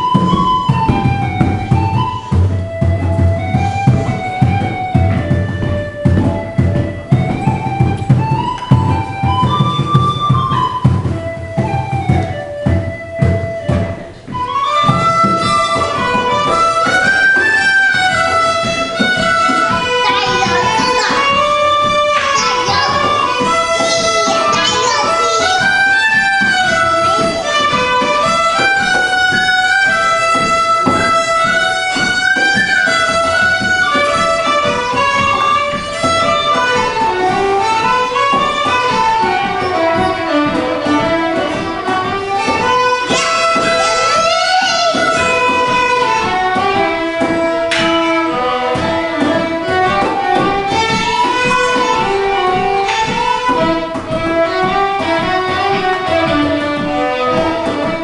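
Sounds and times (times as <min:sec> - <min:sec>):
fiddle playing lively folk tune: 0:00.0 - 0:58.0
plucked-string accompaniment: 0:00.0 - 0:58.0.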